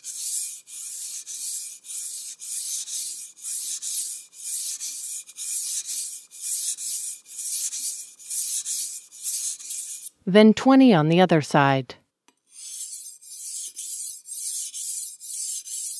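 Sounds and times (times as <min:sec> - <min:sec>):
knife scraping on whetstone: 0:00.0 - 0:10.2, 0:12.5 - 0:15.9.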